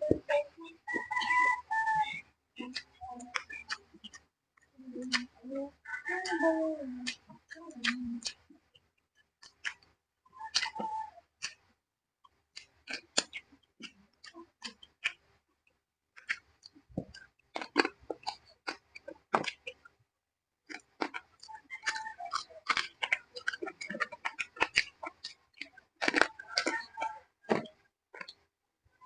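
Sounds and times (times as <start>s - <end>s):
close-up chewing and lip-smacking: 0.0s - 20.0s, 20.6s - 29.0s.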